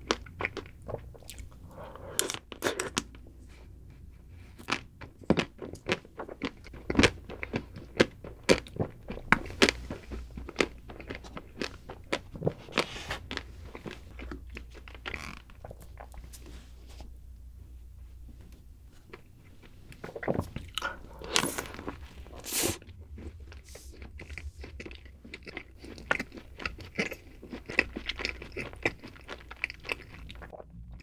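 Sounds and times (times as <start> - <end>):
chewing: 0.0 - 3.1, 4.5 - 16.5, 19.0 - 31.0.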